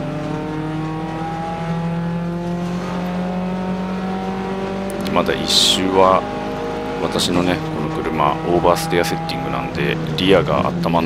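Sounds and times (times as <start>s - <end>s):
race car engine at full throttle: 0.0s - 11.0s.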